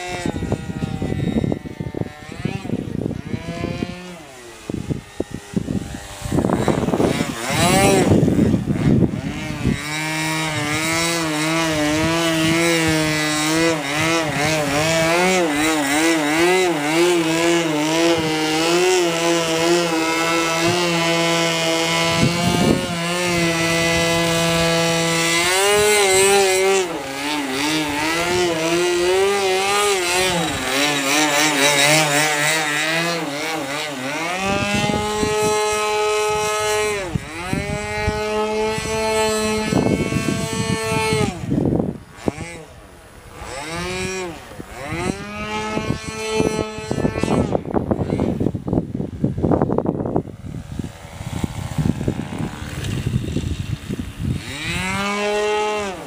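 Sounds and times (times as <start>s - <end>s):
model airplane engine at high revs: 0.0s - 56.0s.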